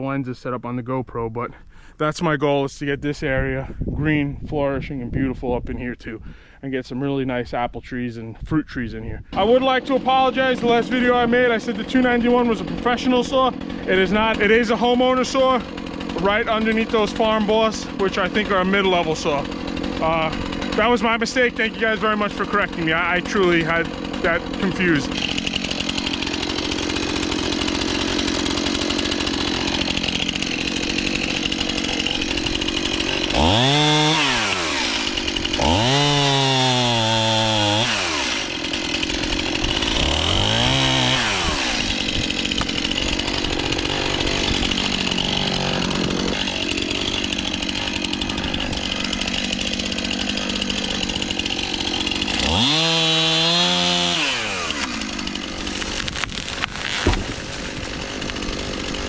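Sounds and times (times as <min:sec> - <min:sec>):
chainsaw revving: 0:09.3 - 0:59.0.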